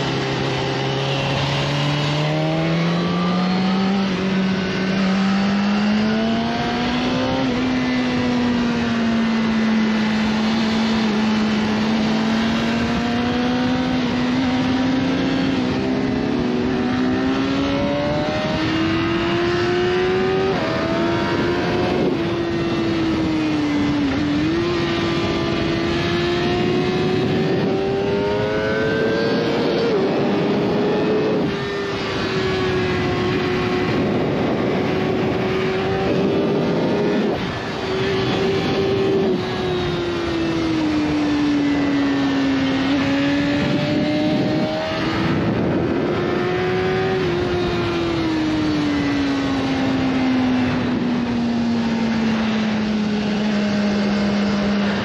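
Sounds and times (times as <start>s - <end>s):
motorcycle engine running hard: 0.0s - 55.0s.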